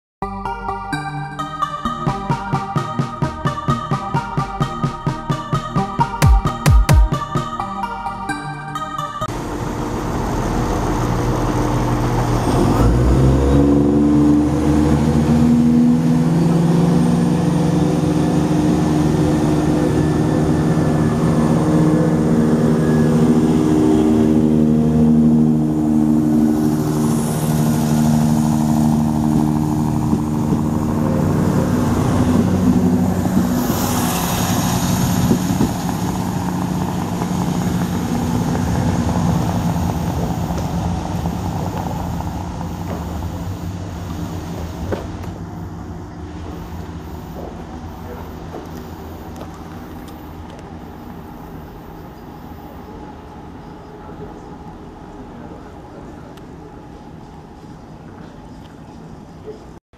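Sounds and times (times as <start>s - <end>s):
diesel train approaching: 0.2s - 59.8s
diesel train engines: 0.3s - 59.8s.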